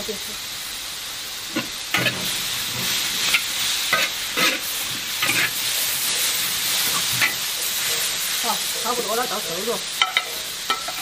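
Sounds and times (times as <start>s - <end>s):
food sizzling in hot oil: 0.0s - 11.0s
metal spatula scraping wok: 1.5s - 11.0s.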